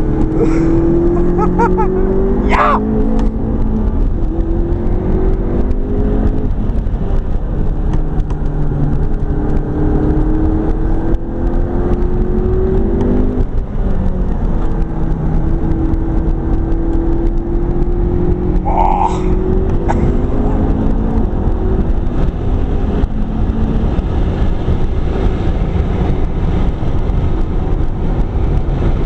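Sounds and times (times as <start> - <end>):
car engine at full throttle: 0.0 - 29.0
road and tyre noise: 0.0 - 29.0.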